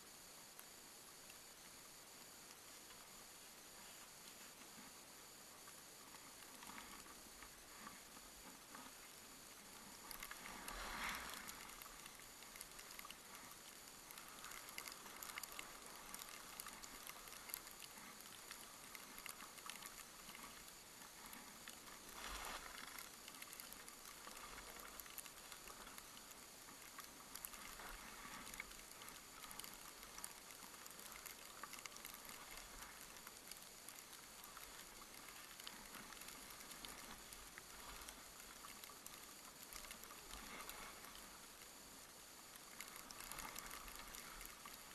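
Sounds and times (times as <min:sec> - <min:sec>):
faint steady hiss: 0:00.0 - 0:44.9
light ticks and crackles: 0:00.0 - 0:44.9.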